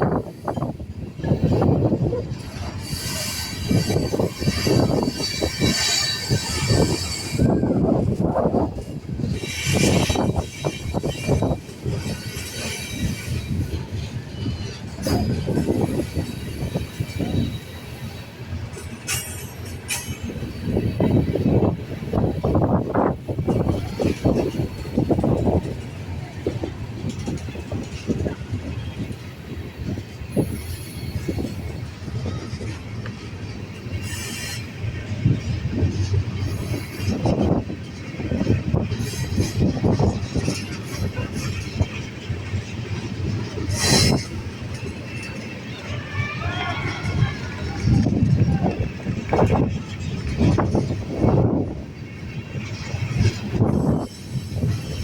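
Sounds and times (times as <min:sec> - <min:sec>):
rail cars rumbling on track: 0:00.0 - 0:55.0
steel wheels squealing: 0:00.4 - 0:22.8, 0:23.4 - 0:51.4.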